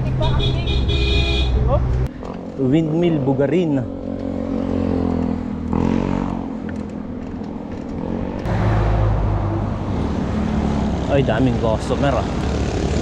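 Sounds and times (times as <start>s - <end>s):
road traffic: 0.0s - 13.0s
vehicle engine humming: 0.0s - 13.0s.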